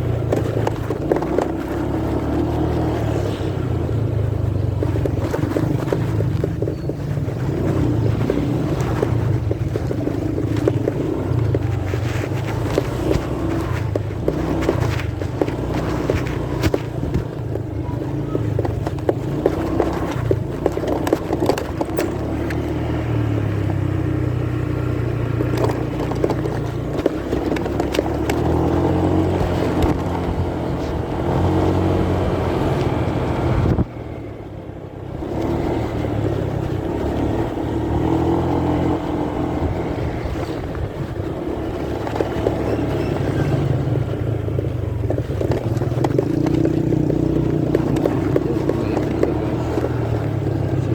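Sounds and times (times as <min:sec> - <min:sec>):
muffled motorcycle engine running: 0:00.0 - 0:50.9.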